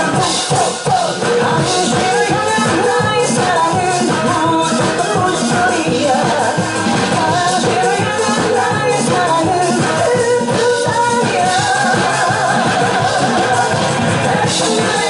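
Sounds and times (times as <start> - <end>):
live music melody over rhythm: 0.0 - 15.0.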